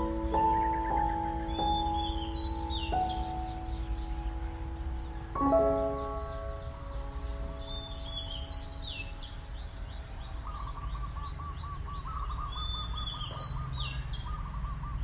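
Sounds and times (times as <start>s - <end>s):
high bird chirps: 0.0s - 15.0s
low outdoor hum: 0.0s - 15.0s
rapid lower bird trill: 0.0s - 15.0s.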